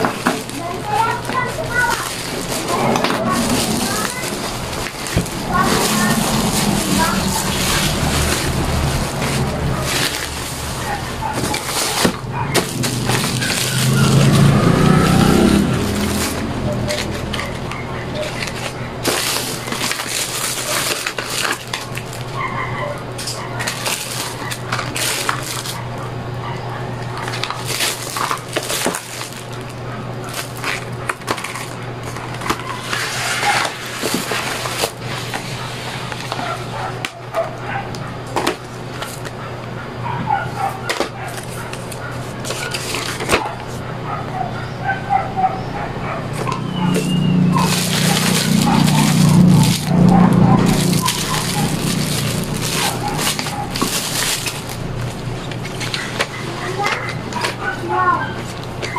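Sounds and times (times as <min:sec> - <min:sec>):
plastic packaging crinkling: 0:00.0 - 0:39.4, 0:40.3 - 0:58.9.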